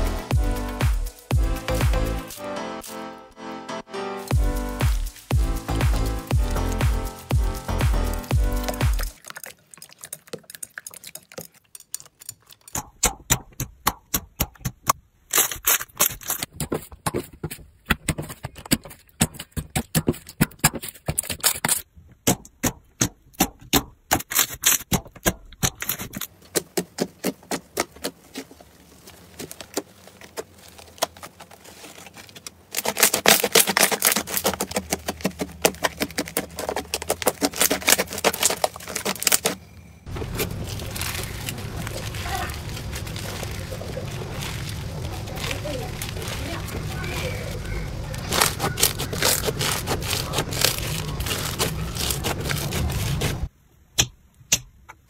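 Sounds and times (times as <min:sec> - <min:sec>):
slime crackling and popping: 0:04.3 - 0:17.2, 0:17.9 - 0:53.5.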